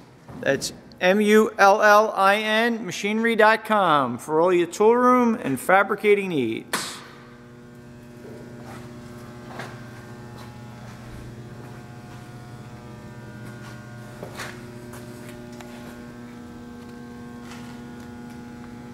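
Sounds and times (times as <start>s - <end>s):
electrical hum: 0.0s - 18.9s.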